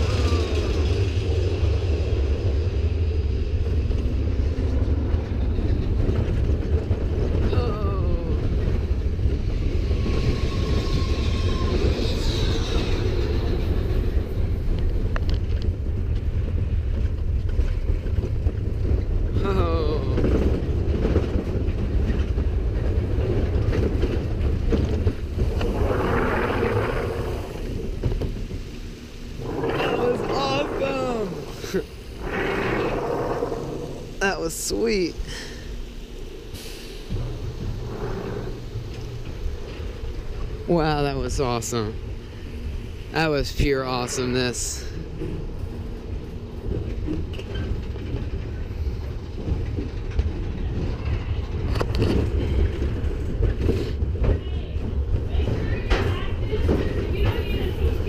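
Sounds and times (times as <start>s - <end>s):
roller coaster rumbling on track: 0.0s - 58.0s.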